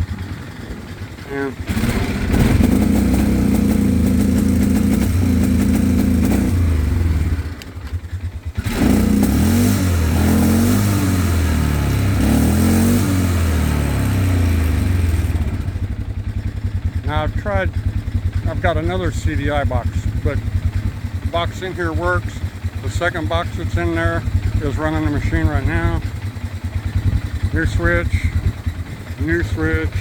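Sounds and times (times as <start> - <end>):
atv engine running unevenly: 0.0 - 30.0
engine sputtering: 0.0 - 30.0.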